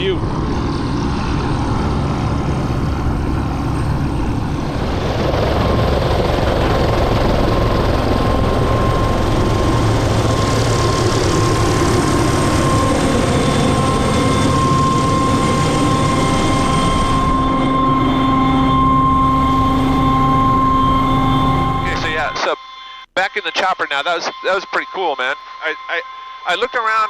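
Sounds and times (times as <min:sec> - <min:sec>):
helicopter turbine engine running: 0:00.0 - 0:22.4
steady high whine: 0:00.0 - 0:27.0.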